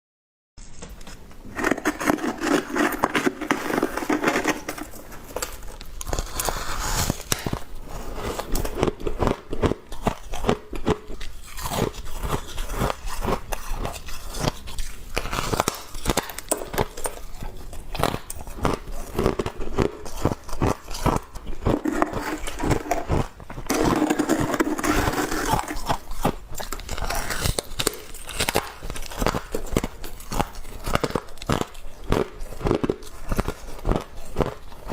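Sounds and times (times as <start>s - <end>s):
chewing crunchy frost: 0.7s - 34.9s.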